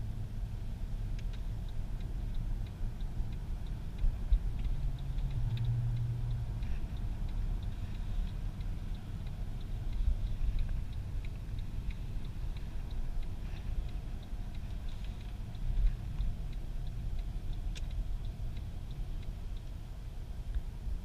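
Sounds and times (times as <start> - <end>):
car engine running at low revs: 0.0 - 21.0
light ticking: 0.0 - 21.0
road rumble: 0.0 - 21.0.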